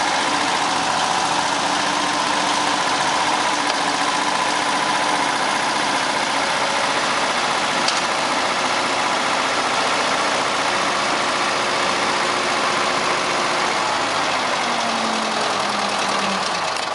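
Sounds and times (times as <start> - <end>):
heavy machine engine running: 0.0 - 16.9.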